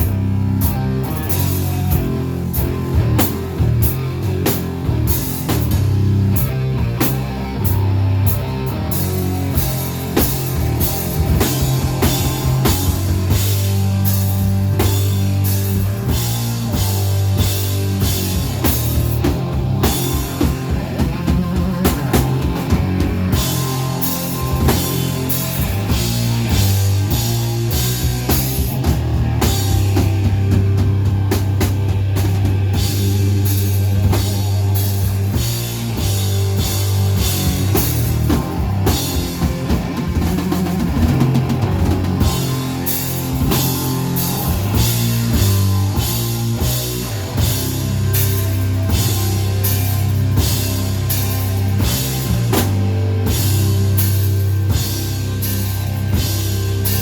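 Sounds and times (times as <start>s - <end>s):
drum kit beat: 0.0s - 57.0s
electric guitar: 0.0s - 57.0s
heavy rock music: 0.0s - 57.0s
low bass line: 0.0s - 57.0s.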